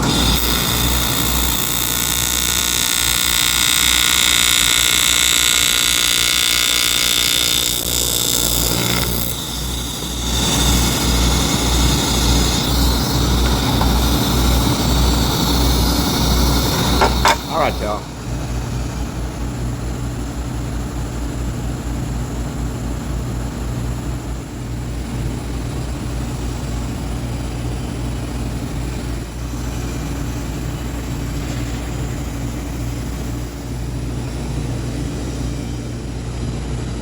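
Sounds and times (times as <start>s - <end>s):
welding arc buzzing: 0.0s - 20.6s, 24.9s - 36.3s.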